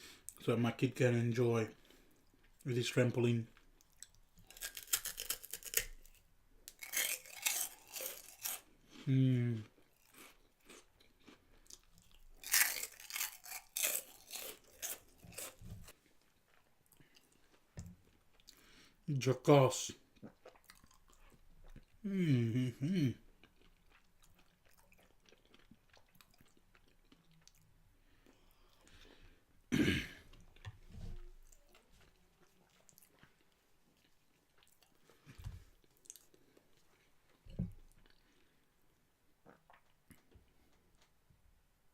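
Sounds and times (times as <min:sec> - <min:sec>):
chewing and crunching food: 0:01.7 - 0:19.0, 0:19.9 - 0:22.0, 0:23.1 - 0:29.5, 0:30.1 - 0:41.3.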